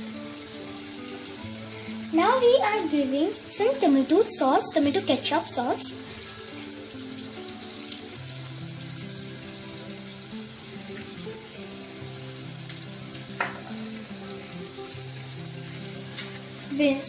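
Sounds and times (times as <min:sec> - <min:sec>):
background music of held notes: 0:00.0 - 0:17.0
vegetables sizzling in a wok: 0:00.0 - 0:17.0.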